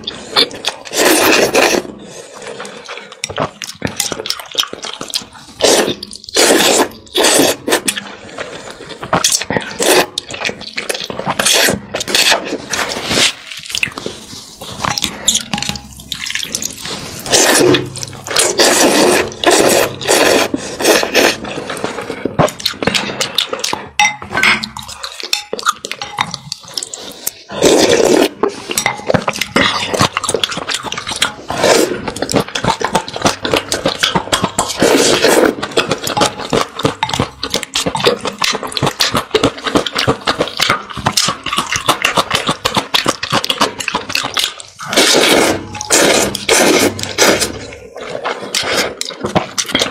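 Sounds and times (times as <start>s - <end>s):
chewing: 0.0s - 49.9s
slurping noodles: 0.0s - 49.9s.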